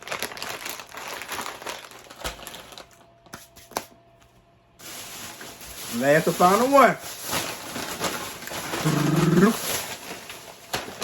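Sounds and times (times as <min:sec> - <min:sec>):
chip bag rustling: 0:00.0 - 0:03.3, 0:04.8 - 0:11.0.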